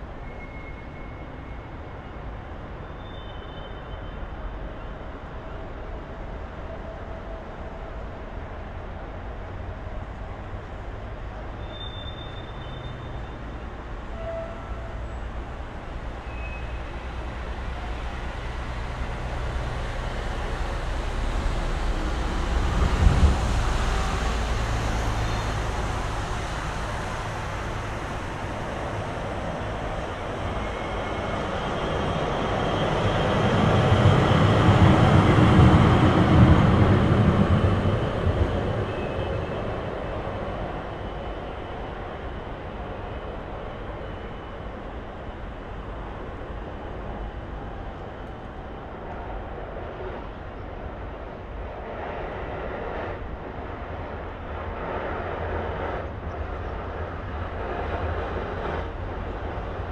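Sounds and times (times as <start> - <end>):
street traffic: 0.0 - 59.9
tram passing: 4.0 - 59.9.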